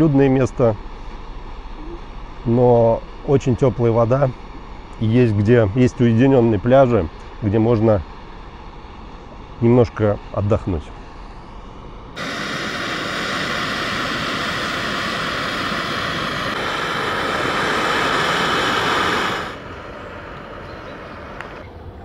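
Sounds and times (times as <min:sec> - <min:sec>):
gas stove flame hissing: 0:00.0 - 0:11.4, 0:12.1 - 0:21.7.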